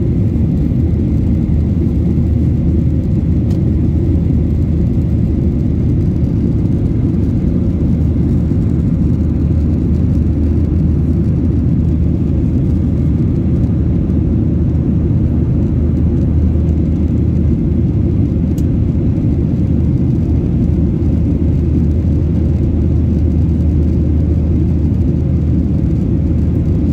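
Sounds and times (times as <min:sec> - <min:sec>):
jet engine cabin noise: 0:00.0 - 0:26.9.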